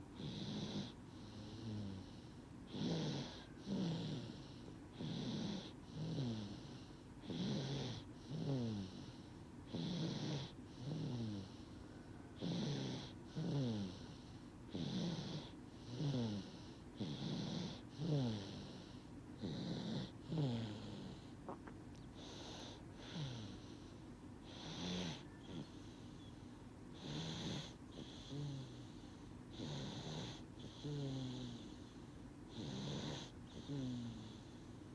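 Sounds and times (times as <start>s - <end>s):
baby snoring: 0.2s - 11.7s, 12.4s - 23.8s, 24.4s - 26.3s, 26.9s - 34.6s.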